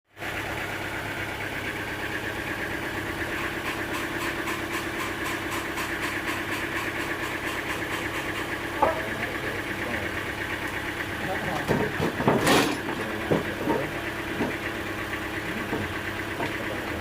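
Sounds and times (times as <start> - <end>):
sawmill machinery droning: 0.1 - 17.0.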